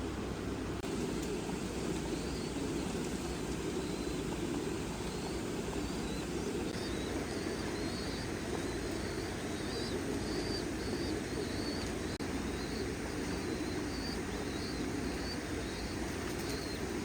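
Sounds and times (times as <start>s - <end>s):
steady low noise: 0.0s - 16.1s
pigeons chirping: 0.8s - 17.0s.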